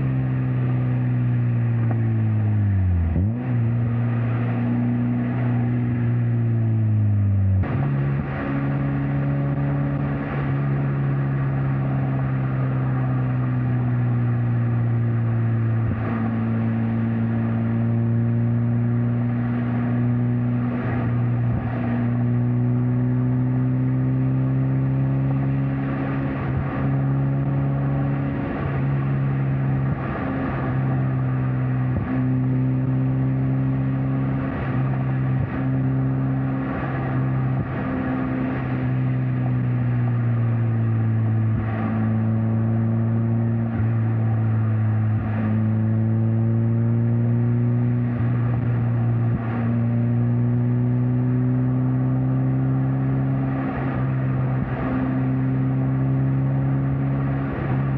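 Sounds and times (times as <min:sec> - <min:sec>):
car engine cruising: 0:00.0 - 0:57.9.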